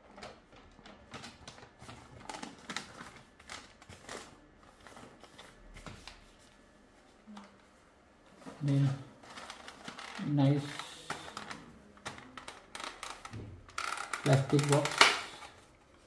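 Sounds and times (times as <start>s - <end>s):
paper rustling and crackling: 0.0s - 6.6s, 8.3s - 13.4s, 14.0s - 16.0s.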